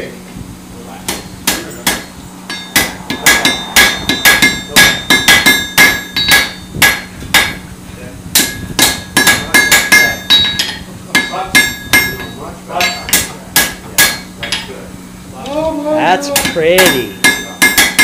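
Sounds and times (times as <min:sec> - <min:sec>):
hammer striking metal on anvil: 0:01.1 - 0:07.6, 0:08.3 - 0:14.7, 0:16.3 - 0:18.0.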